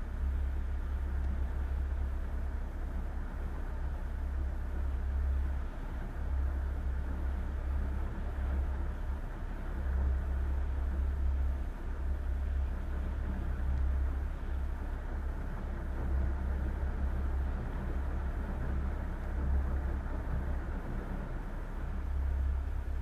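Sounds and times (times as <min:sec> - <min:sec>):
boat engine drone: 0:00.0 - 0:23.0
water and wind hiss: 0:00.0 - 0:23.0.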